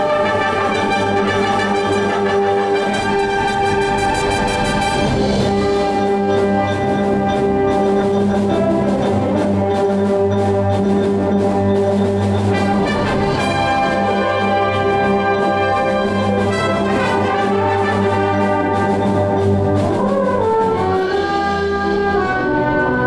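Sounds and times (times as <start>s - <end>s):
percussion strokes: 0.0s - 21.4s
wind band brass chords: 0.0s - 23.0s.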